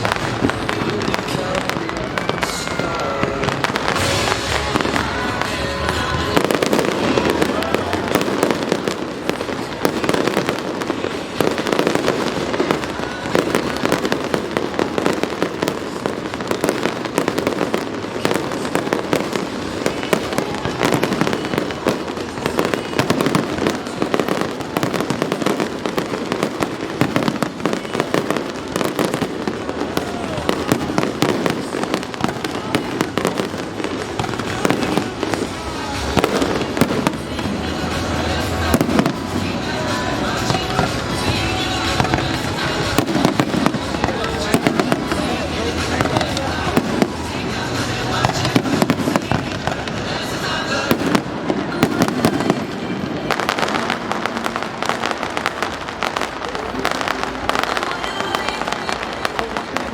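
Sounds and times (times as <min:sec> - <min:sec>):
fireworks bangs and crackles: 0:00.0 - 0:59.9
music: 0:00.0 - 0:59.9
voices: 0:00.0 - 0:59.9.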